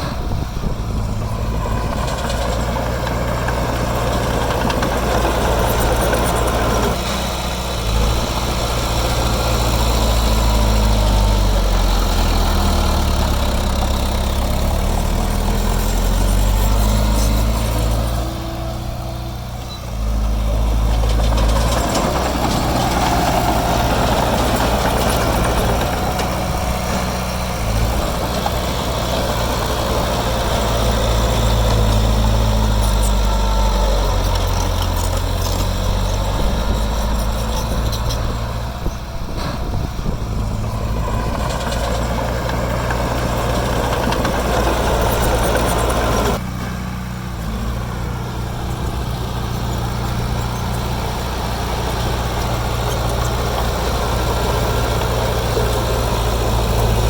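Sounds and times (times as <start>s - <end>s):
construction machine diesel engine: 0.0s - 57.0s.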